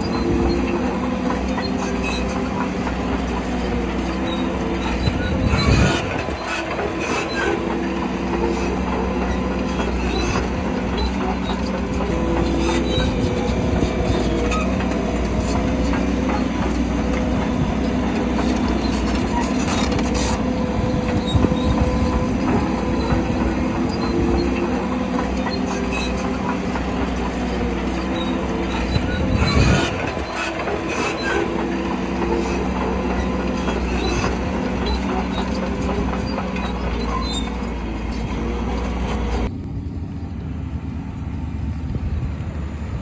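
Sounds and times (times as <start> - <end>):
steel tracks clanking and squealing: 0.0 - 39.5
bulldozer diesel engine: 0.0 - 43.0.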